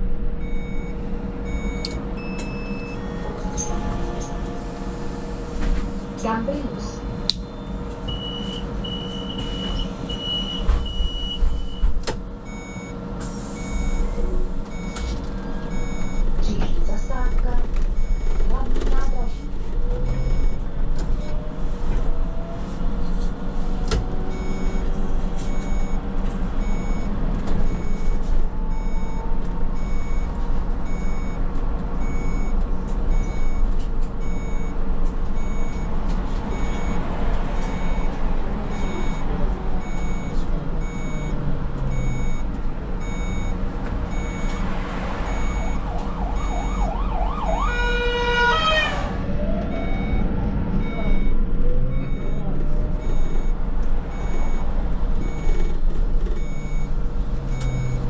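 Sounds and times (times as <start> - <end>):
trolleybus drive hum: 0.0 - 58.0.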